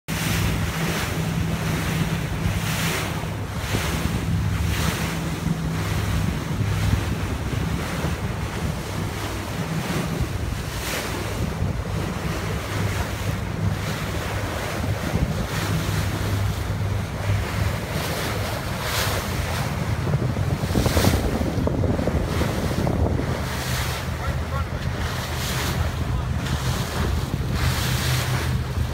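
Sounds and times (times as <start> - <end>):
boat engine humming: 0.1 - 28.9
water rushing past boat hull: 0.1 - 28.9
wind buffeting microphone: 0.1 - 28.9.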